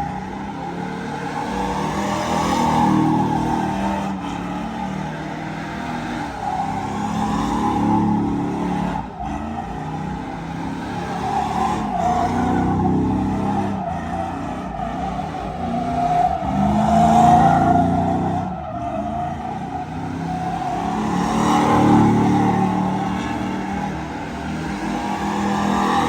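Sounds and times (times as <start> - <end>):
engine revving: 0.0 - 26.0
tire squeal: 0.0 - 26.0.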